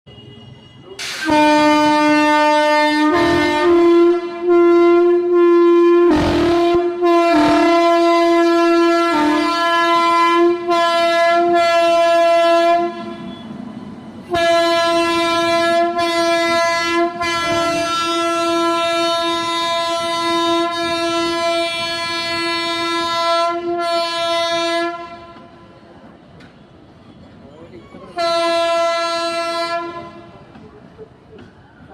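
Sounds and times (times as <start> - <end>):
locomotive horn blasts: 0.1 - 13.5, 14.3 - 25.6, 28.2 - 30.4.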